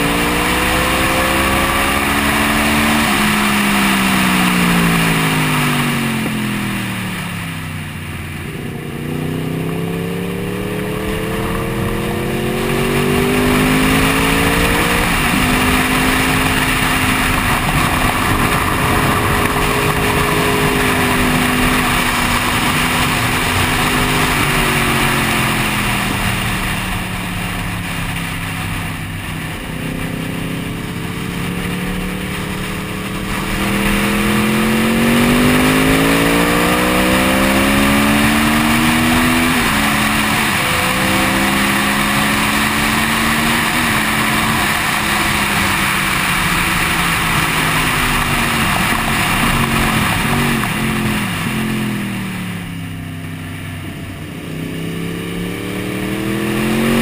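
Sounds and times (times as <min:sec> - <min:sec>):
wind rush: 0:00.0 - 0:52.9
motorcycle engine revving: 0:00.0 - 0:57.0.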